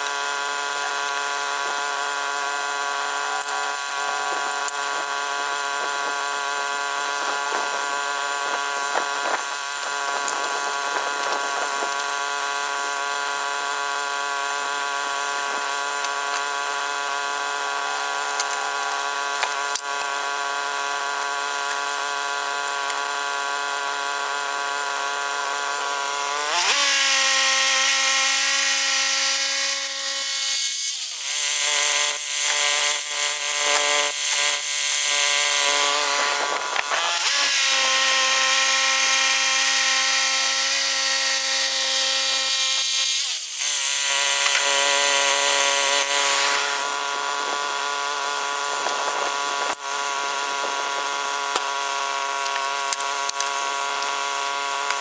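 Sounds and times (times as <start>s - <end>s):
bandsaw sawing a log: 0.0s - 55.0s.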